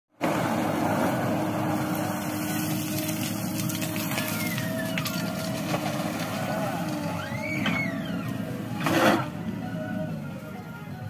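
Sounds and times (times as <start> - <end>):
diesel engines running: 0.1 - 11.0
backhoe digging soil: 0.2 - 9.8.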